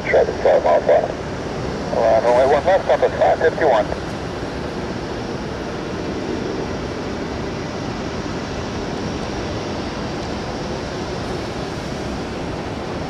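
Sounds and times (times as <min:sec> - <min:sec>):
faint steady hum: 0:00.0 - 0:13.0
jet engines roaring: 0:00.0 - 0:13.0.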